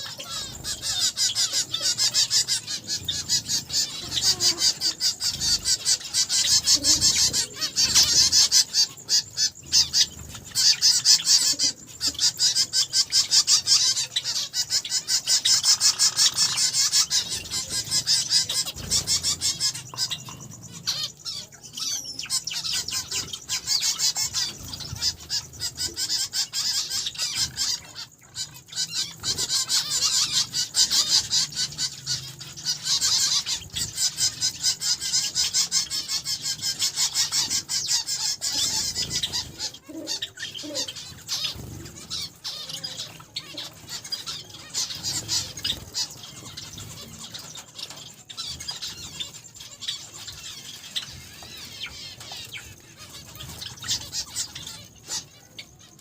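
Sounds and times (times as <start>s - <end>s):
finches chirping: 0.0s - 56.0s.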